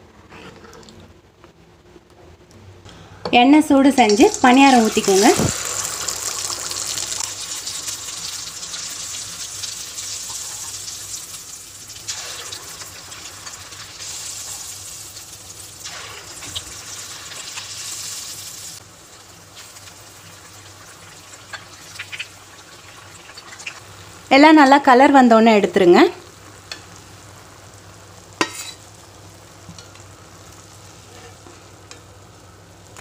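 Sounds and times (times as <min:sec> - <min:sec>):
batter sizzling in hot oil: 0:03.9 - 0:33.0.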